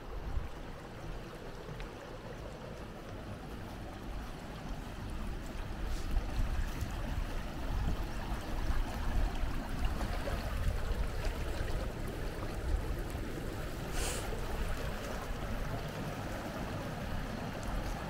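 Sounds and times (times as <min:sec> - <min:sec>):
water rushing over stones: 0:00.0 - 0:18.0.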